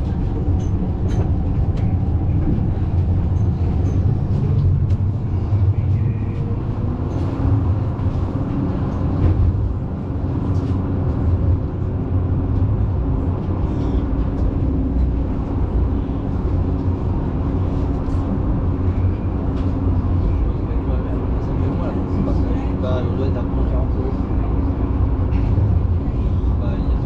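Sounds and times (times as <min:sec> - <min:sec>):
tram wheels rumbling: 0:00.0 - 0:27.0.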